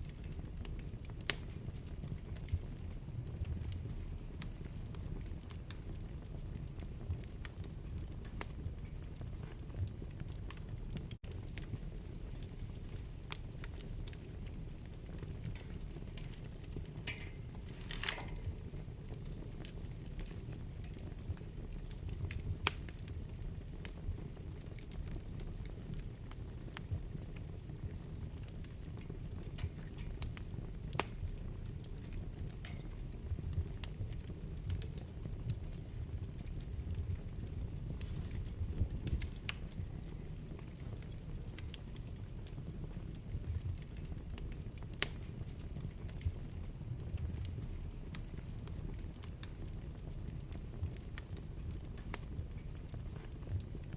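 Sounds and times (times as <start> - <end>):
fire crackling and popping: 0.0 - 53.9
fire rumbling: 0.0 - 53.9.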